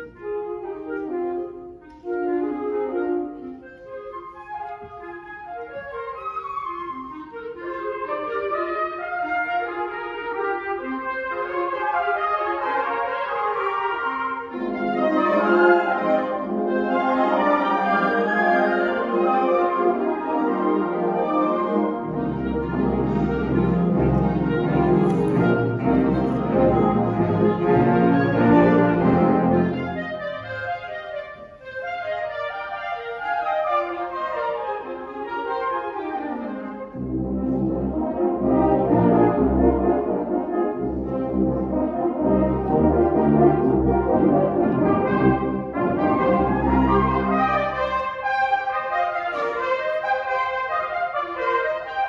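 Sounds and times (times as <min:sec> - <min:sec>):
wind band playing chords: 0:00.0 - 0:52.0.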